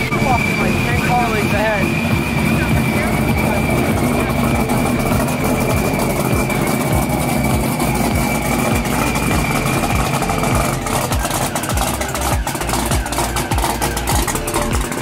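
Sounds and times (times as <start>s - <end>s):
car engine idling: 0.0s - 15.0s
steady high-pitched tone: 0.0s - 15.0s.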